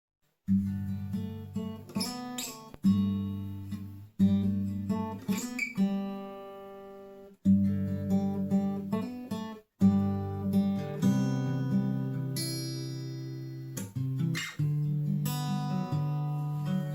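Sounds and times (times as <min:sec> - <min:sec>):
acoustic guitar strumming: 0:00.5 - 0:16.9.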